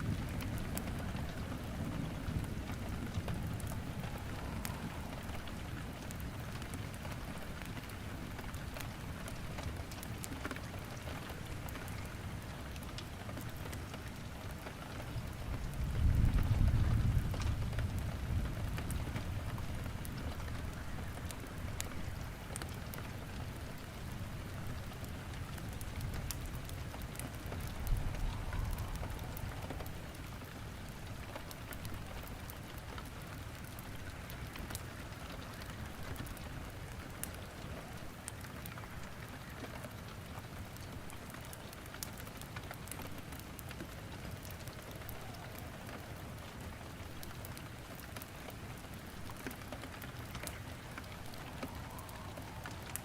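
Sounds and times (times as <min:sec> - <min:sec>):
steady rain falling: 0:00.0 - 0:53.0
wood crackling in fireplace: 0:00.0 - 0:53.0.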